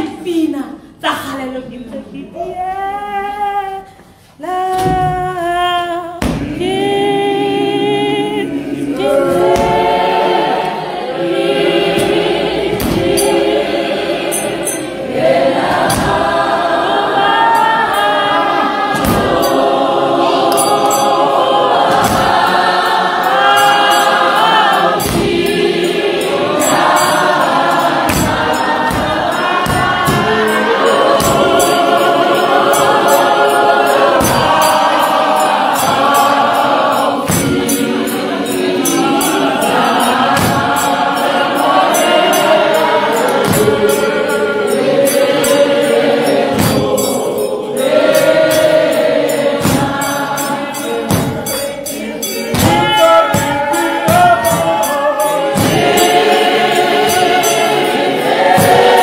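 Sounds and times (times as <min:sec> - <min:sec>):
congregation singing: 0:02.5 - 0:59.0.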